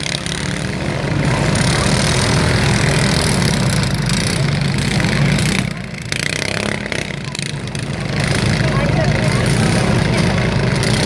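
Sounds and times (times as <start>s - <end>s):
lawn mower engines droning: 0.0s - 11.0s.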